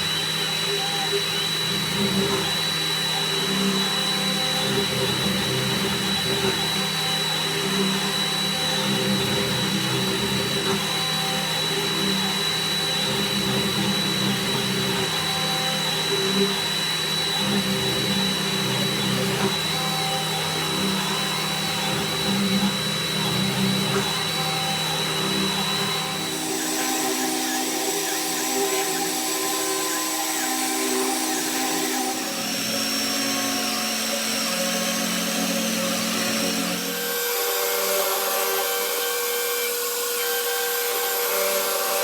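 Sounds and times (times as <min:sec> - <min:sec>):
milling machine drone and whine: 0:00.0 - 0:42.0.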